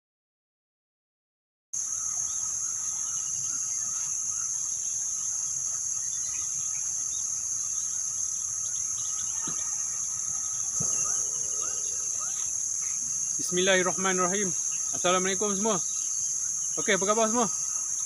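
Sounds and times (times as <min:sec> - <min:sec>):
insects droning: 0:01.8 - 0:18.0
bird chirps: 0:01.9 - 0:18.0.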